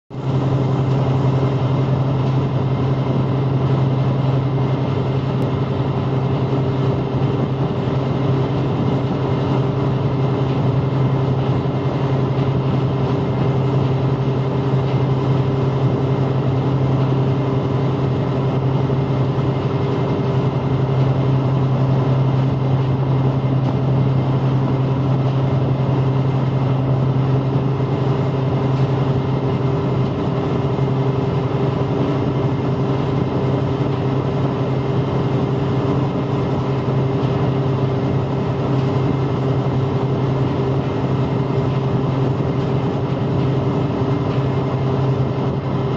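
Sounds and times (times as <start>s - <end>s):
boat diesel engine humming: 0.1s - 45.9s
water rushing along hull: 0.1s - 45.9s.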